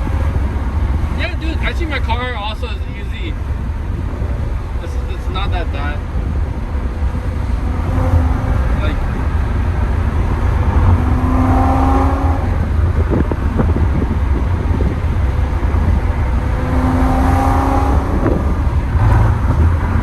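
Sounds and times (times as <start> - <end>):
car engine deep rumble: 0.0 - 20.0
exhaust drone tone: 0.0 - 20.0.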